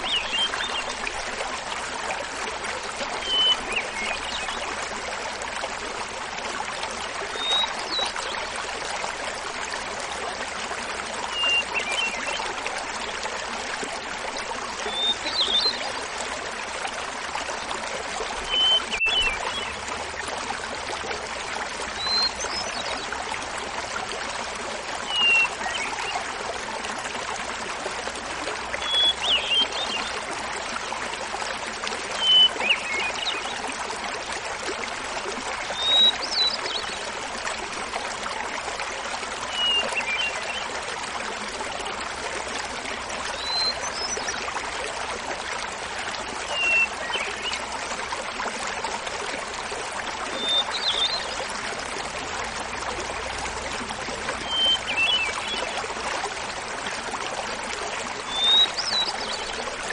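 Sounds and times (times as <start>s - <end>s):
small waterfall babbling: 0.0s - 59.9s.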